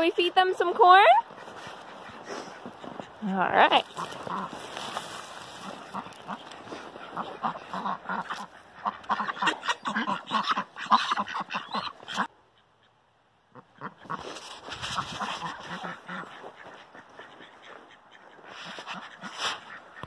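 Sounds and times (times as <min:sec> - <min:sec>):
ducks quacking: 0:00.3 - 0:20.0.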